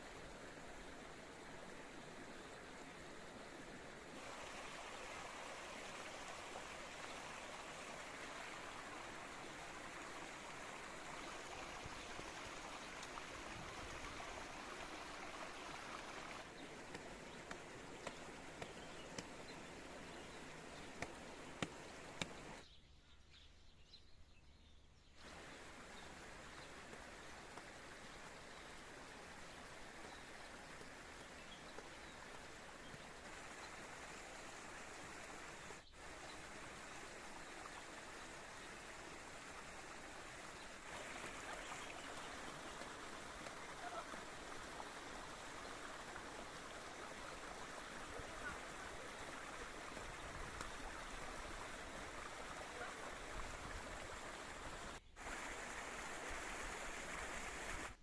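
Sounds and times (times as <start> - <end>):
stream water flowing: 0.0 - 22.6, 25.2 - 58.0.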